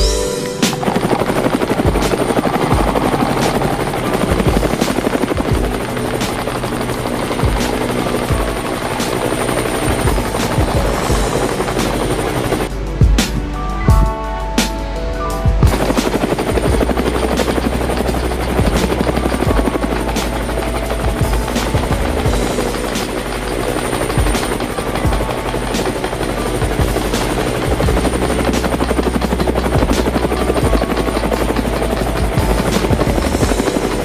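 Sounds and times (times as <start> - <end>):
helicopter rotor whirring: 0.0 - 34.0
music: 0.0 - 34.0.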